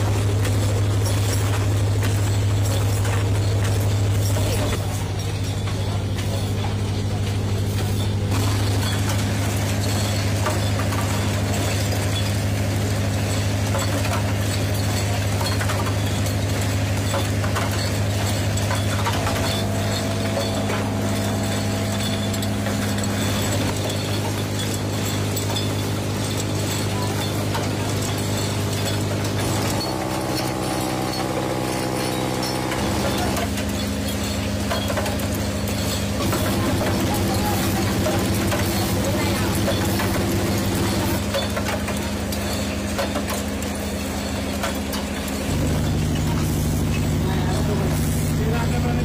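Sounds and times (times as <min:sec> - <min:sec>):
machine humming: 0:00.0 - 0:49.0.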